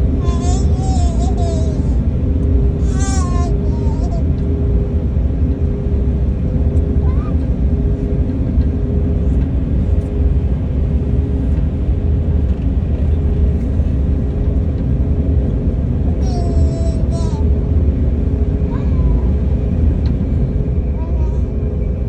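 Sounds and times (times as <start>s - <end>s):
constant hum: 0.0s - 22.0s
train rumbling: 0.0s - 22.0s.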